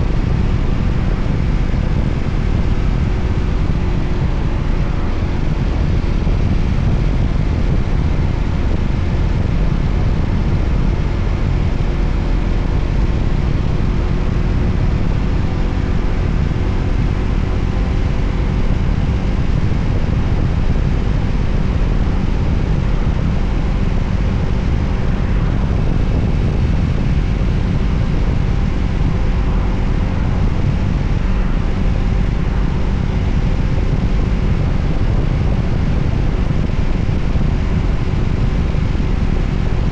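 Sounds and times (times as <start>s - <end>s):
motorcycle engine drone: 0.0s - 39.9s
wind rumble on microphone: 0.0s - 39.9s.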